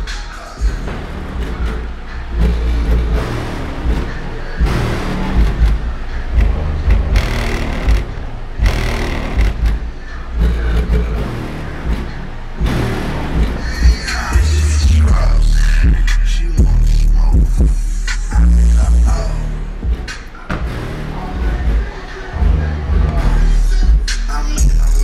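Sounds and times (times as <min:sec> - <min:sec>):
hip-hop through car subwoofers: 0:00.0 - 0:25.0.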